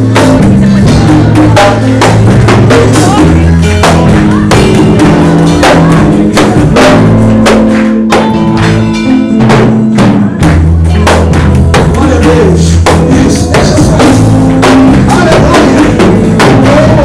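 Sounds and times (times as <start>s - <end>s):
drum kit strokes: 0.0s - 17.0s
live band music: 0.0s - 17.0s
long held bass notes: 0.0s - 17.0s.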